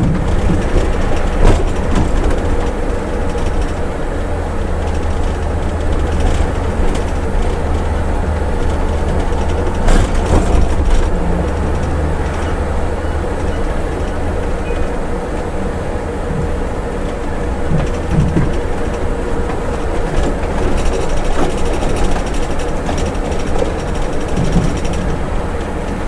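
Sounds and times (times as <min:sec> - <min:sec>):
knocks and rattles: 0:00.0 - 0:03.9, 0:04.8 - 0:15.0, 0:16.4 - 0:26.0
coach engine and road rumble: 0:00.0 - 0:26.0.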